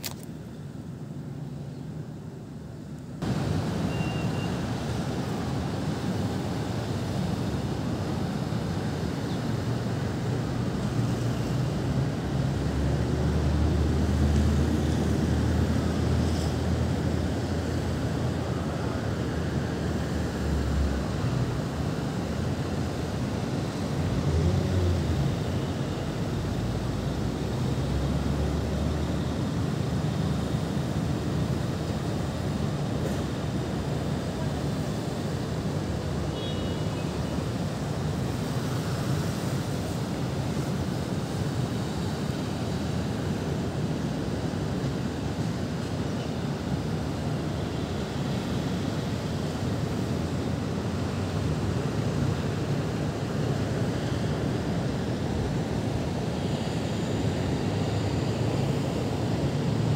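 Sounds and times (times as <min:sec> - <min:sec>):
distant city traffic rumble: 0:00.0 - 0:59.9.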